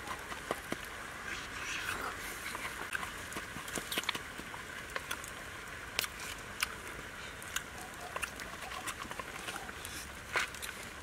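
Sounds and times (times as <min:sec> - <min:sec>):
fire crackling: 0:00.0 - 0:11.0.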